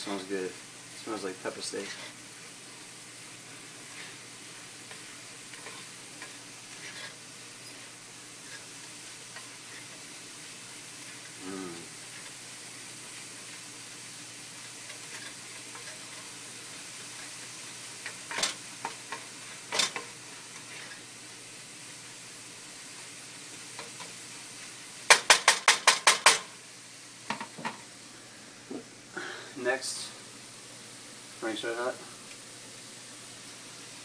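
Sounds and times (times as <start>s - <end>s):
meat sizzling in frying pan: 0.0s - 34.0s.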